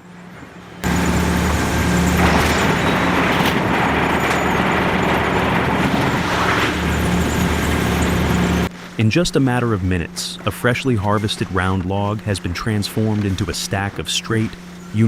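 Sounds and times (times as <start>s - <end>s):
low electric motor hum: 0.0s - 9.0s, 9.7s - 15.0s
sawmill machinery running: 0.1s - 15.0s.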